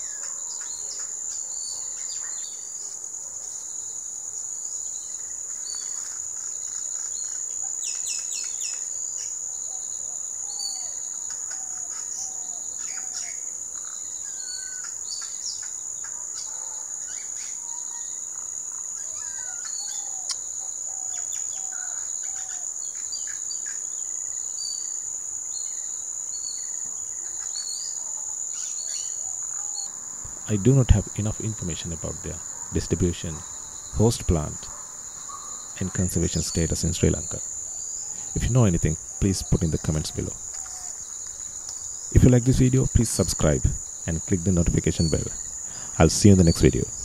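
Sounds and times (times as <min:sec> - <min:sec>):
insects trilling: 0:00.0 - 0:47.0.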